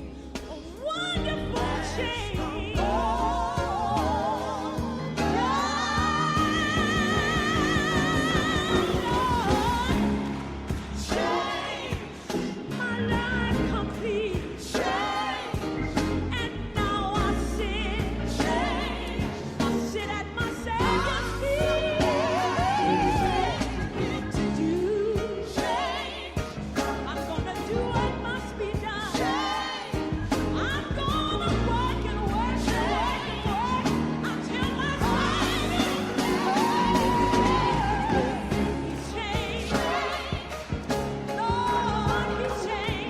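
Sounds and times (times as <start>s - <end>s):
bass: 0.0s - 43.0s
voices singing with vibrato: 0.0s - 43.0s
regular drum beat: 0.2s - 43.0s.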